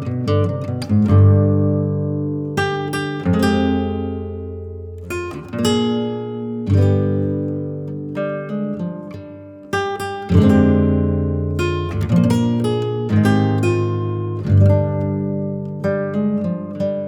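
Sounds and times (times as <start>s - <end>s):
acoustic guitar plucked notes: 0.0s - 17.0s.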